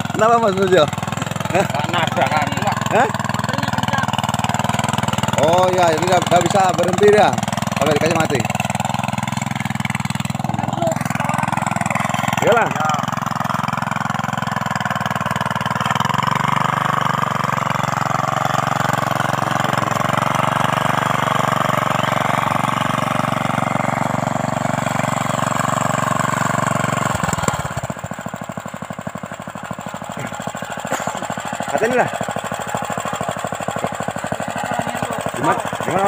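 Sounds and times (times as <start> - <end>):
small petrol engine running: 0.0 - 36.0.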